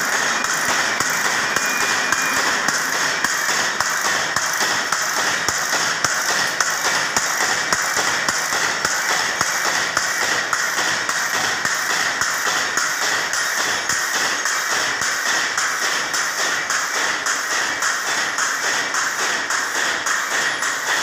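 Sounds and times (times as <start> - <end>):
regular machine ticking: 0.0 - 21.0
wire-processing machine running: 0.0 - 21.0.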